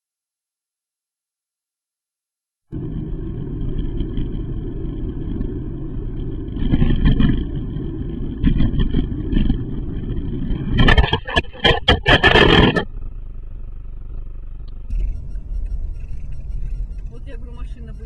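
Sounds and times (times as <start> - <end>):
car road and engine noise: 2.7 - 18.0.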